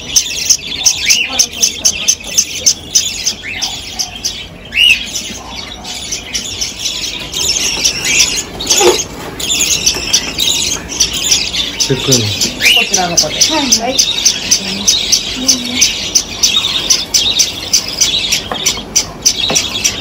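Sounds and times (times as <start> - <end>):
budgerigars chirping and squawking: 0.0 - 20.0
rising and falling bird calls: 0.0 - 20.0.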